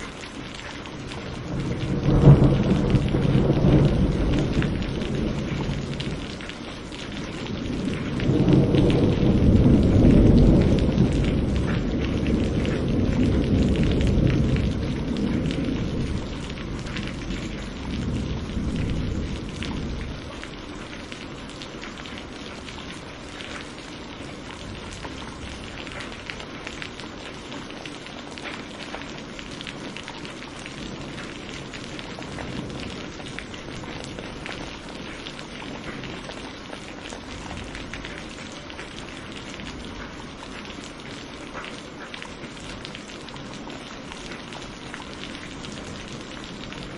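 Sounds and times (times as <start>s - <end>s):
steady rain falling: 0.0s - 46.9s
low rumble of thunder: 0.4s - 27.4s, 28.4s - 41.0s.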